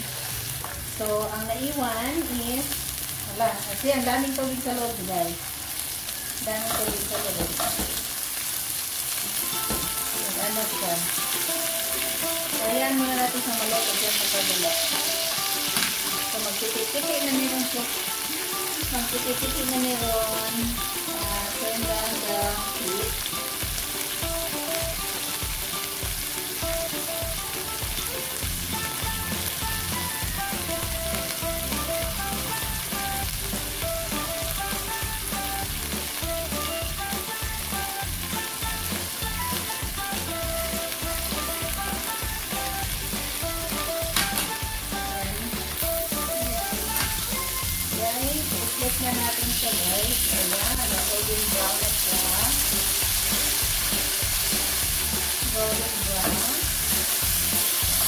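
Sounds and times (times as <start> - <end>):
patties sizzling in a pan: 0.0 - 58.0.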